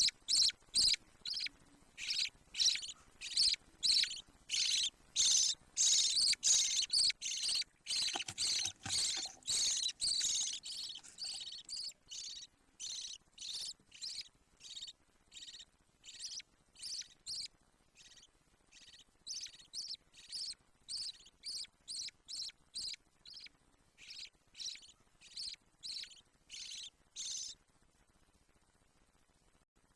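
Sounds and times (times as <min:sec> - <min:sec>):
budgerigar chicks chirping: 0:00.0 - 0:27.6.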